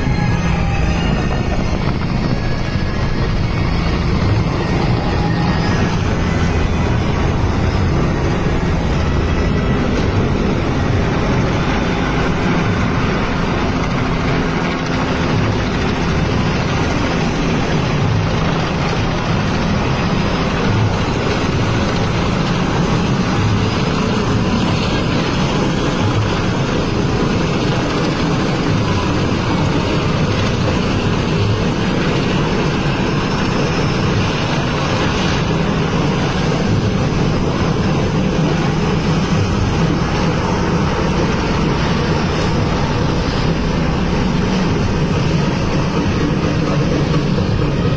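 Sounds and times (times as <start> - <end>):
helicopter flying overhead: 0.0 - 47.9.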